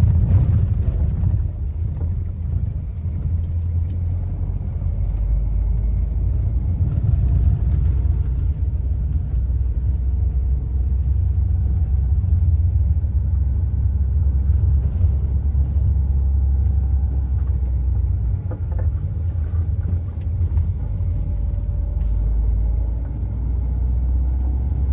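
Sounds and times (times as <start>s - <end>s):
vehicle rumbling on dirt road: 0.0s - 24.9s
faint engine note: 3.4s - 24.9s.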